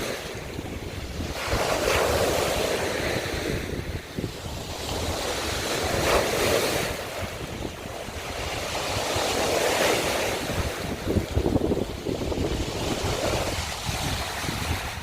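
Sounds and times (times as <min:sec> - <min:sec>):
waves washing over shells: 0:00.0 - 0:15.0
wind buffeting microphone: 0:00.0 - 0:15.0.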